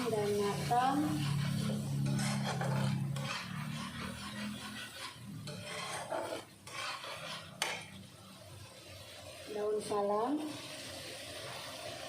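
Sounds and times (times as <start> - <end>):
spatula scraping a pan: 0.0 - 12.0.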